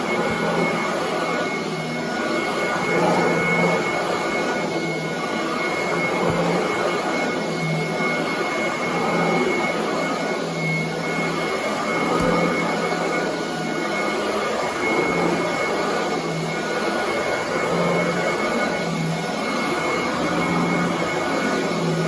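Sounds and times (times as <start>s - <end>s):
vacuum cleaner running over carpet: 0.0s - 22.0s.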